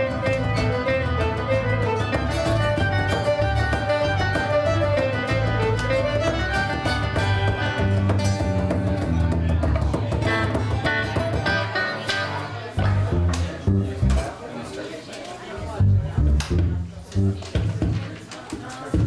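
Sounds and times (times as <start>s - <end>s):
folk band playing: 0.0s - 14.4s, 15.6s - 18.1s.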